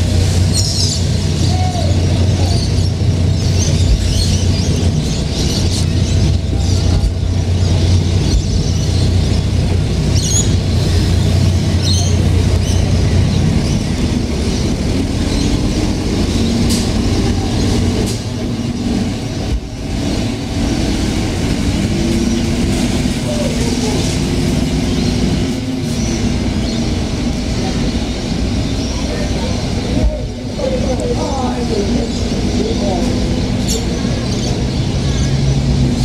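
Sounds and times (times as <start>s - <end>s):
bus engine accelerating: 0.0s - 36.0s
bus engine idling: 0.0s - 36.0s.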